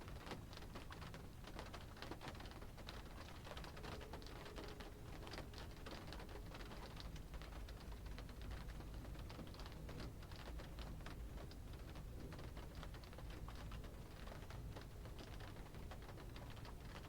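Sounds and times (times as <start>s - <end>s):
rain pattering on car roof: 0.0s - 17.0s.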